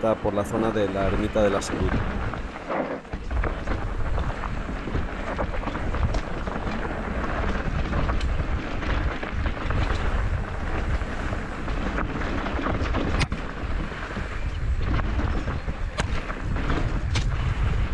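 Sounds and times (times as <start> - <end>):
wind buffeting microphone: 0.0 - 17.9
bike rattling over stones: 0.6 - 17.9.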